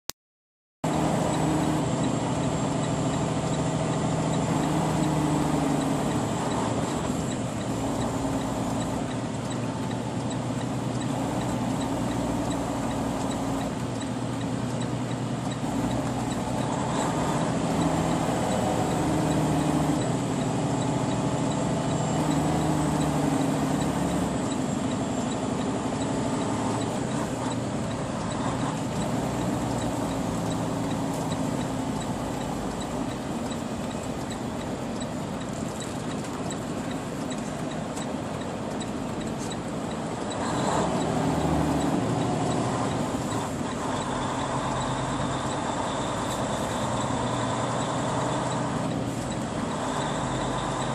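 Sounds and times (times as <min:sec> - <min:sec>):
diesel truck engine under load: 0:00.8 - 0:50.9.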